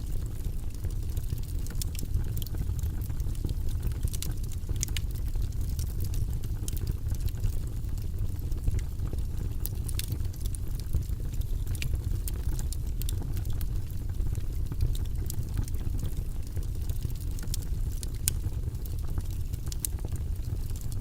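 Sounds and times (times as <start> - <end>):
fire crackling with sharp pops: 0.0 - 21.0
low rumble of flames: 0.0 - 21.0.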